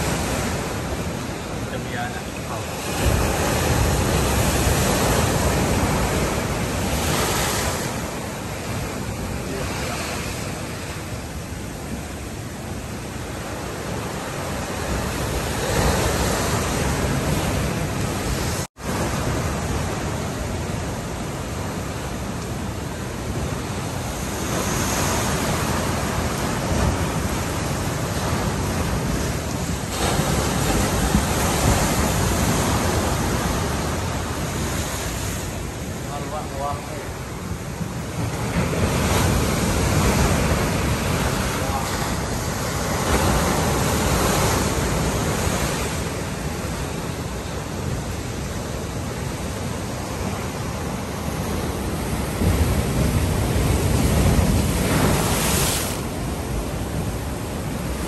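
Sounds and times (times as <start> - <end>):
waves crashing against seawall: 0.0 - 58.0.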